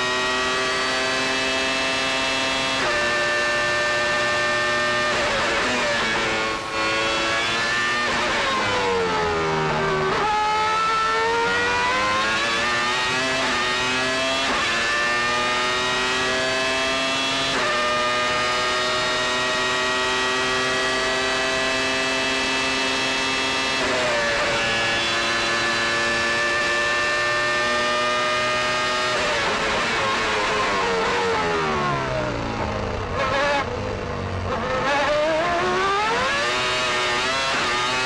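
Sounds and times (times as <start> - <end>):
racing car engine revving: 0.0 - 38.0.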